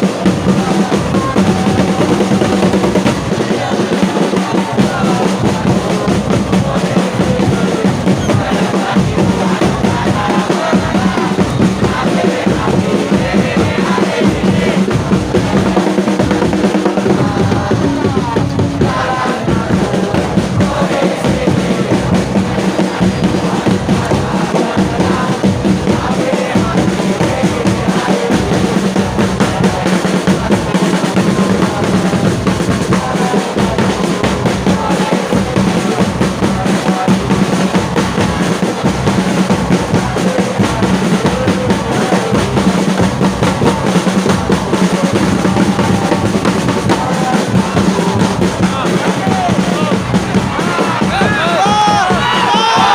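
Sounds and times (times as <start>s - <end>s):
crowd singing and chanting: 0.0s - 52.9s
pounding drums: 0.0s - 52.9s.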